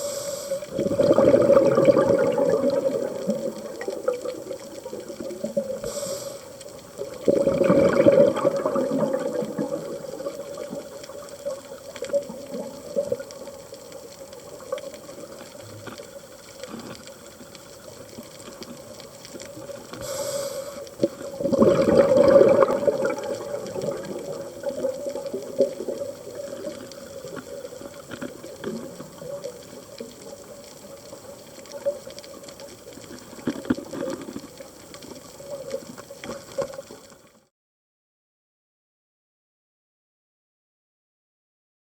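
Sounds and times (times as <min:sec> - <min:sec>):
exhaled bubbles underwater: 0:00.0 - 0:37.5
faint crackling: 0:00.0 - 0:37.5.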